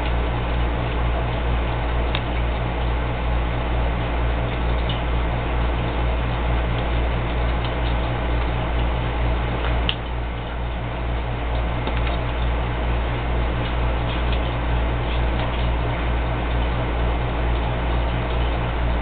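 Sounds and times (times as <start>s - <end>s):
aquarium air pump humming: 0.0s - 19.0s.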